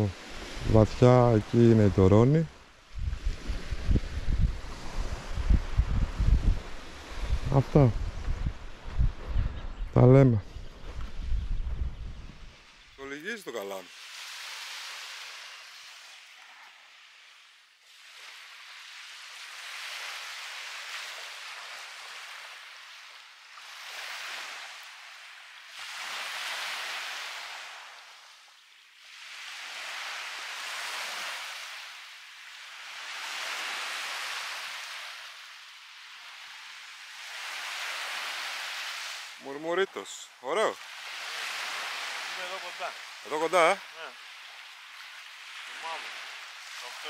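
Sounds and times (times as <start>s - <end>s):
small waves washing up beach: 0.0s - 9.5s, 10.4s - 47.0s.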